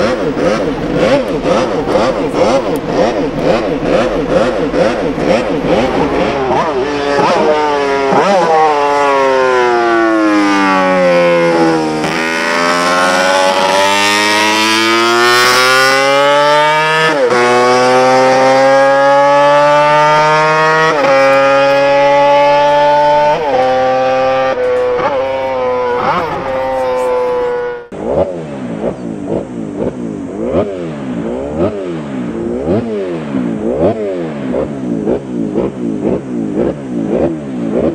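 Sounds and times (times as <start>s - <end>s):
racing motorcycle engine revving: 0.0s - 37.9s.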